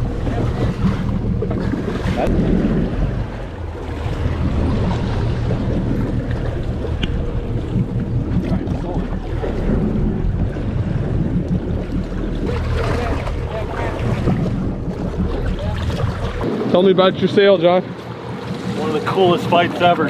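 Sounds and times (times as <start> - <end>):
boat engine running: 0.0 - 20.0
water splashing against hull: 0.0 - 20.0.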